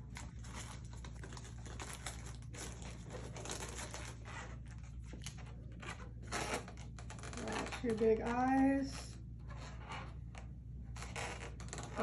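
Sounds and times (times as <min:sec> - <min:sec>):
balloons crinkling and rubbing: 0:00.0 - 0:12.0
steady low hum: 0:00.0 - 0:12.0.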